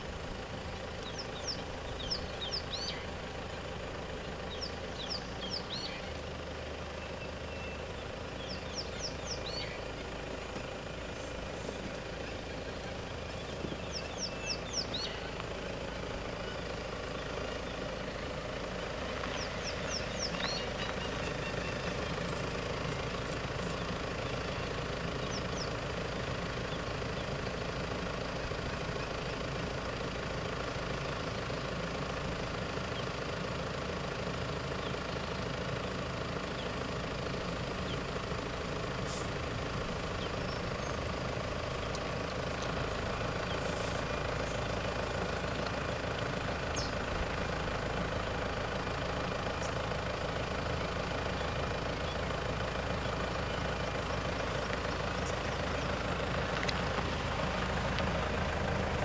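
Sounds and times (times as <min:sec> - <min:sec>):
bird calling: 0:00.0 - 0:59.0
vehicle engine idling: 0:00.0 - 0:59.0.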